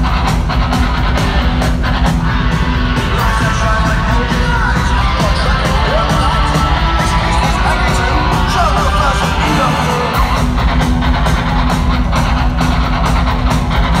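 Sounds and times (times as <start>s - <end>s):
live heavy rock band: 0.0s - 14.0s.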